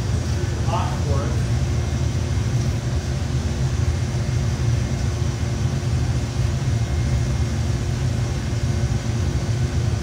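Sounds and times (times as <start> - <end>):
gas furnace and blowers roaring: 0.0 - 10.0.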